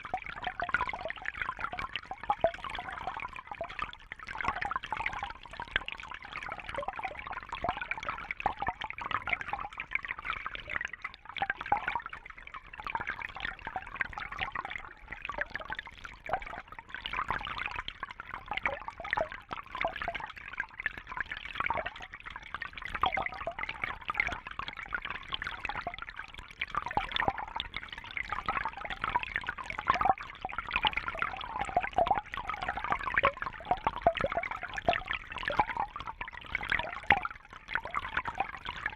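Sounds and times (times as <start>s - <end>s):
water trickling and bubbling: 0.0s - 38.9s.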